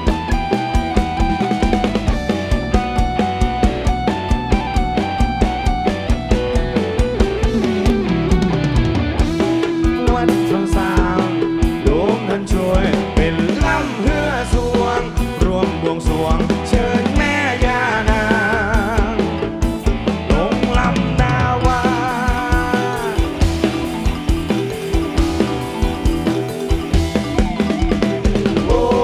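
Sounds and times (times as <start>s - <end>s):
bass guitar: 0.0s - 29.0s
drum kit beat: 0.0s - 29.0s
electric guitar: 0.0s - 29.0s
sliding lead melody: 0.0s - 29.0s.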